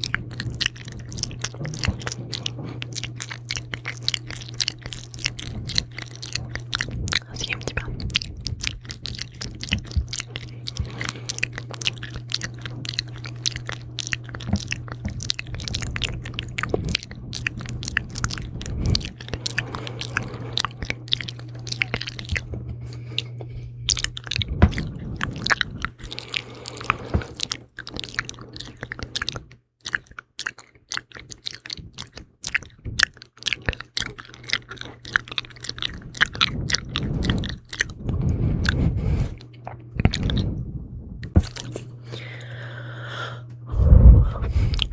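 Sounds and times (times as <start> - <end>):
wet lip and tongue clicks: 0.0 - 40.6, 41.2 - 42.3, 44.6 - 44.9.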